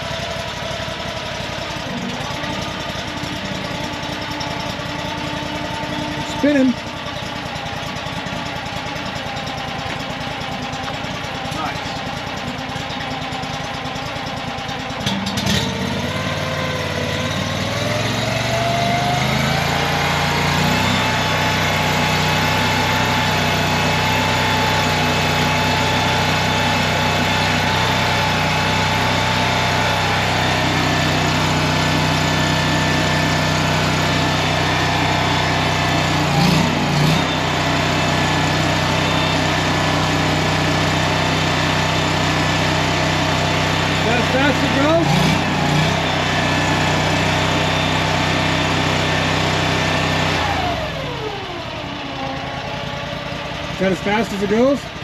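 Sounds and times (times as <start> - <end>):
hydraulic whine: 0.0 - 55.0
skid steer engine running: 0.0 - 55.0.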